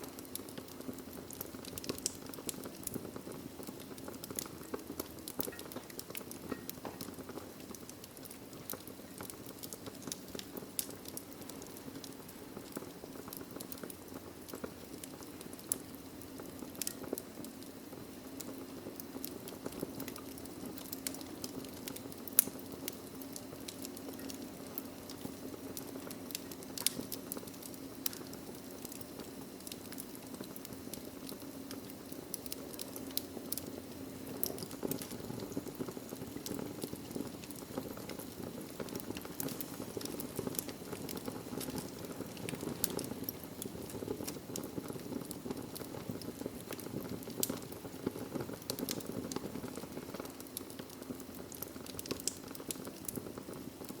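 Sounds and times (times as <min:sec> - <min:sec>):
fire crackling and popping: 0:00.0 - 0:54.0
hiss and rustle of flames: 0:00.0 - 0:54.0.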